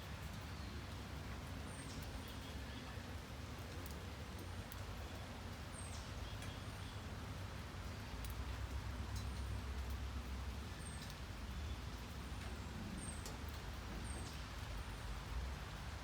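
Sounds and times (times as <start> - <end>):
raindrops ticking: 0.0 - 16.0
steady rain: 0.0 - 16.0.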